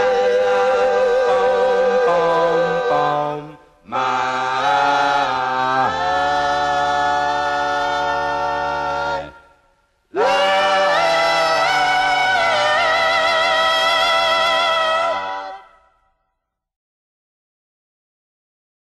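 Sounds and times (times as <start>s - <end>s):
vocal group singing in harmony: 0.0s - 15.9s.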